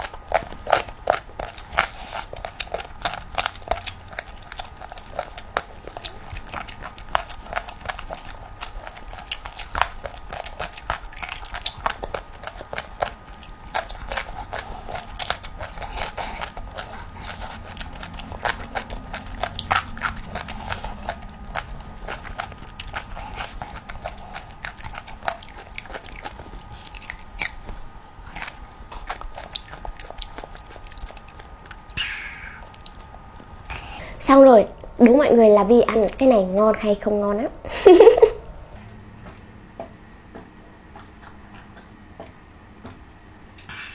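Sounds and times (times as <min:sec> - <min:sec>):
chewing with wet clicks and crunches: 0:00.0 - 0:37.1, 0:38.8 - 0:43.8.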